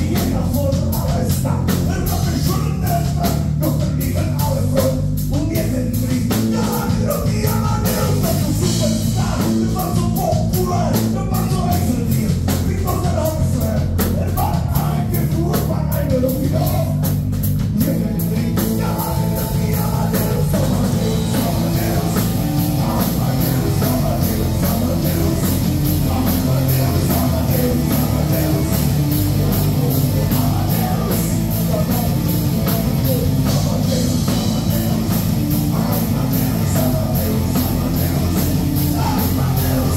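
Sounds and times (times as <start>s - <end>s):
live rock band: 0.0s - 39.9s
male lead vocal: 0.0s - 39.9s.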